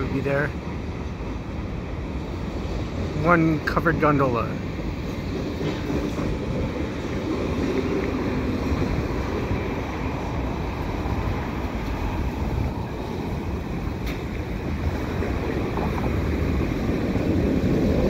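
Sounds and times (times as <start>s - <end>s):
freight train rumbling past: 0.0s - 18.0s
wind buffeting microphone: 0.0s - 18.0s.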